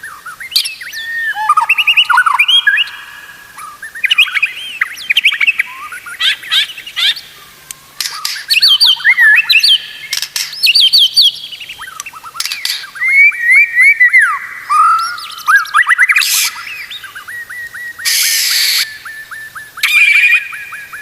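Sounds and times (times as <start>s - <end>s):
bird singing whistled notes: 0.0s - 21.0s.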